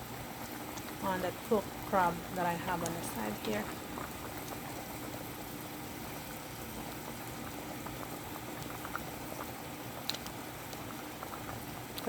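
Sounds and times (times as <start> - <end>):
pot bubbling at a boil: 0.0 - 12.0.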